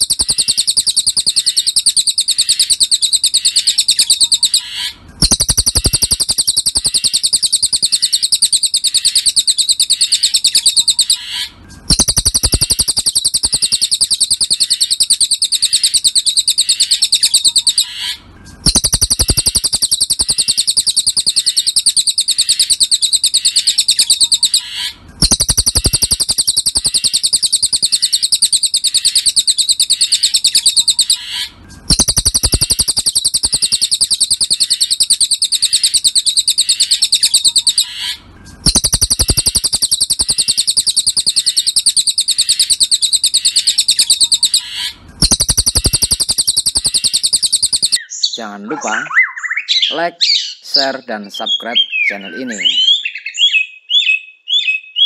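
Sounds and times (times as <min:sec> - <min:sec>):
bird song rapid trill: 0:00.0 - 0:55.0.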